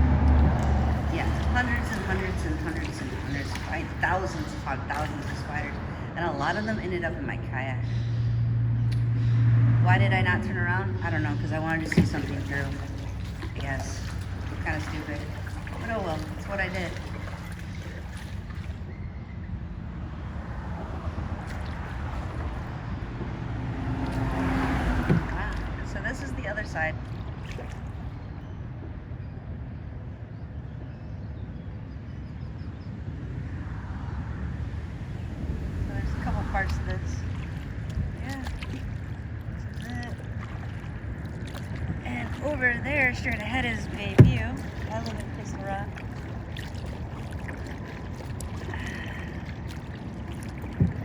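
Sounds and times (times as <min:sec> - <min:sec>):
paddle splashes and drips: 0:00.0 - 0:29.0, 0:34.9 - 0:51.0
water against hull: 0:00.0 - 0:32.9, 0:33.5 - 0:51.0
wind rumble on microphone: 0:00.0 - 0:51.0.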